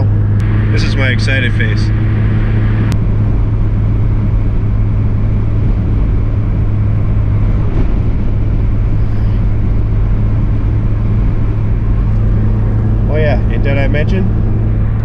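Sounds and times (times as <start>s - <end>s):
car engine drone inside cabin: 0.0s - 15.0s
road noise: 0.0s - 15.0s.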